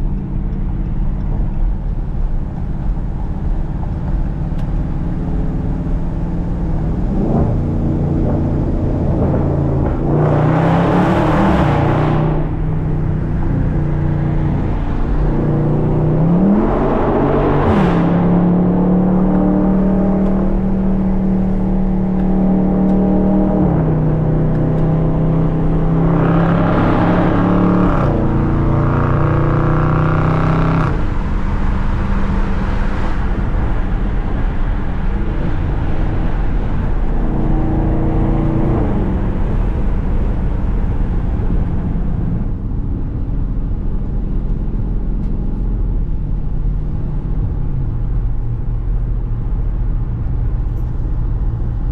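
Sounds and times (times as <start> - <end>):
car engine running: 0.0 - 51.9.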